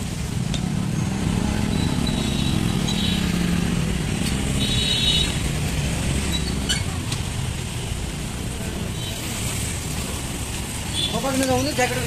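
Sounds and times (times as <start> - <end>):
motorcycles and cars passing: 0.0 - 12.0.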